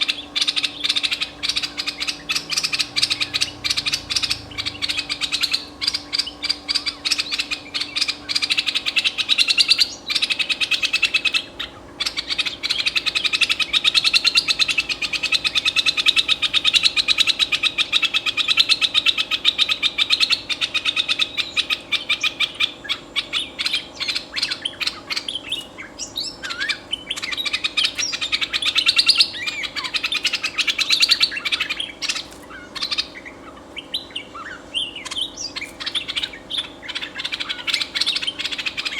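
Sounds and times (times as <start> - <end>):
bulbul chattering calls: 0.0 - 38.9.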